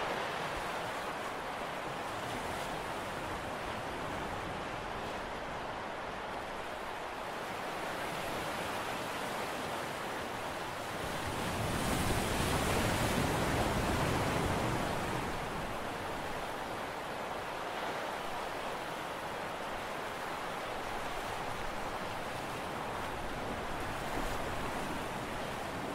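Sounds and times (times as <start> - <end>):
wind: 0.0 - 25.9.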